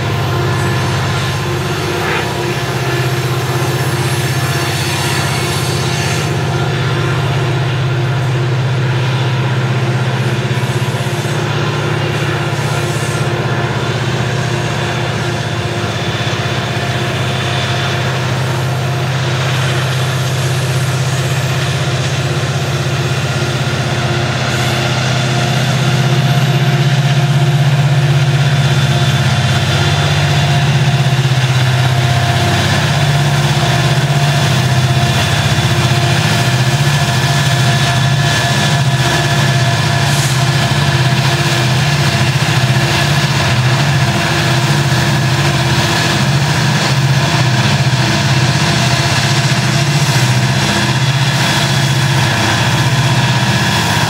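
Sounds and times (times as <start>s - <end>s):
locomotive engine drone: 0.0s - 54.0s.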